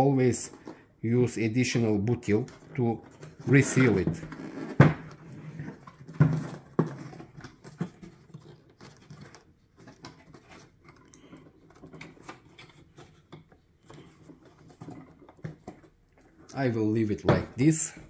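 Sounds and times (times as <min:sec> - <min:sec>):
plastic parts clicking and scraping: 0:00.2 - 0:01.0, 0:02.0 - 0:17.7.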